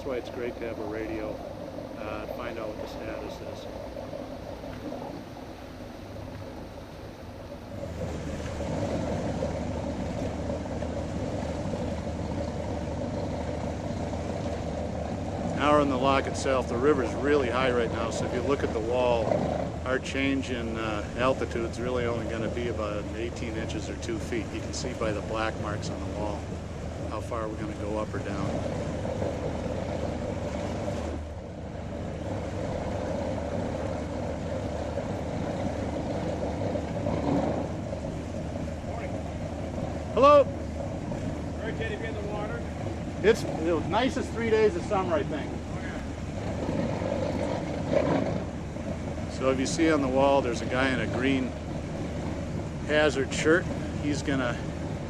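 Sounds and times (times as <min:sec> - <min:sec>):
motorboat engine running: 0:00.0 - 0:55.0.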